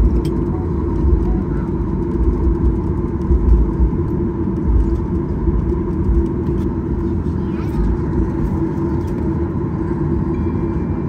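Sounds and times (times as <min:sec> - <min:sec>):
low rumble: 0:00.0 - 0:11.0
steady cabin drone: 0:00.0 - 0:11.0.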